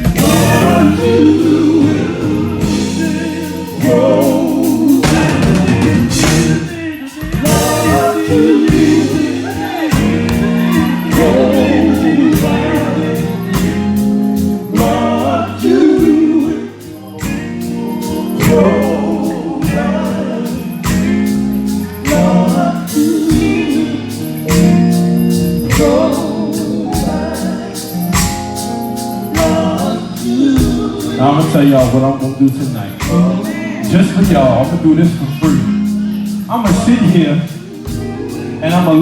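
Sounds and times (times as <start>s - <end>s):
band with steady drum beat: 0.0s - 39.0s
vocal group singing: 0.0s - 39.0s.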